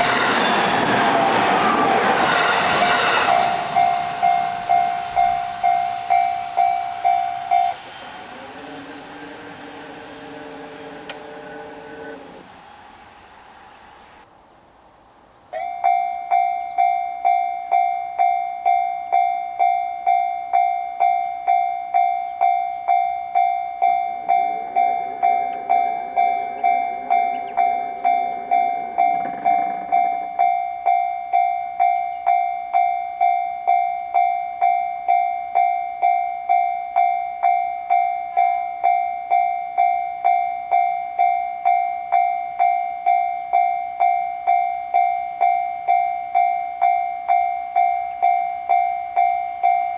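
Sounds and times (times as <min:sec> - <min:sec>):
railroad crossing warning bell: 0:00.0 - 0:14.3, 0:15.5 - 0:49.9.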